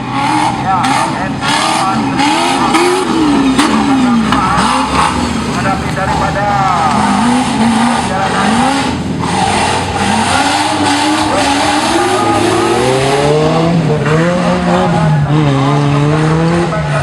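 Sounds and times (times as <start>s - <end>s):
engine revving hard: 0.0s - 17.0s.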